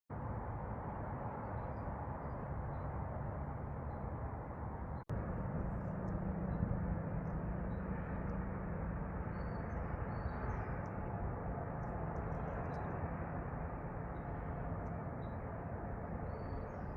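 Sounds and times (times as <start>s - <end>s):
outdoor noise: 0.1s - 16.9s.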